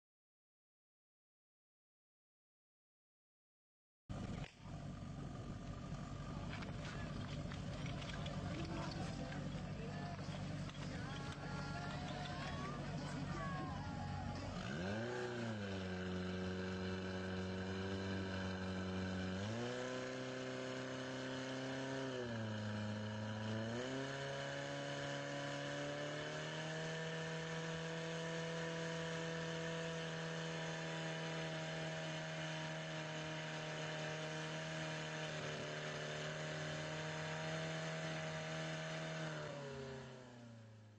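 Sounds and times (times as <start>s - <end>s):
fire pump engine running: 4.1s - 39.2s.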